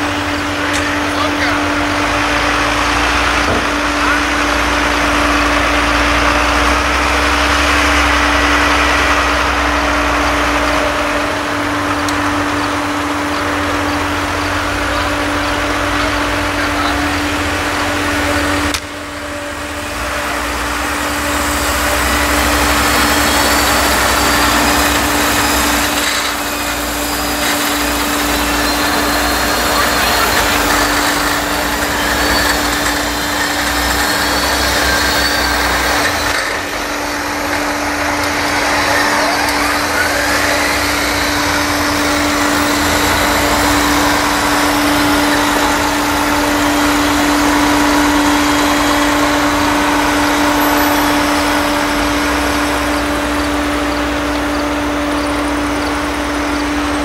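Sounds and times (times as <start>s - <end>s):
diesel tractor engines running: 0.0s - 57.0s.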